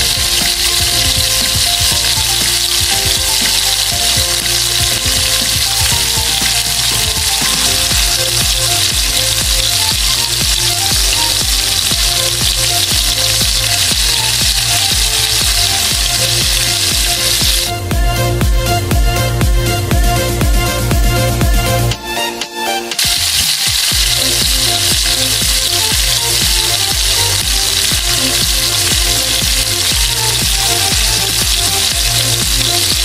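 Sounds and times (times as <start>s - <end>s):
rolls sizzling in hot oil: 0.0s - 17.7s, 23.0s - 33.0s
background music with a beat: 0.0s - 33.0s.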